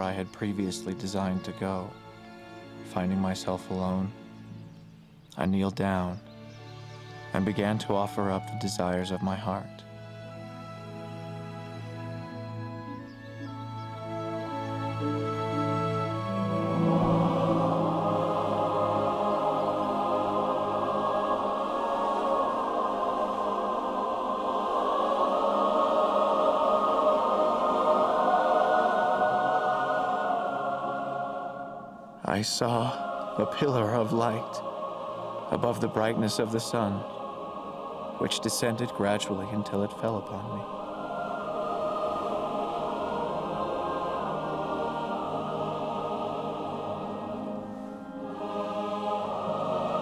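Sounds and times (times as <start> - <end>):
film score music: 0.0 - 50.0
wordless choir singing: 0.0 - 50.0.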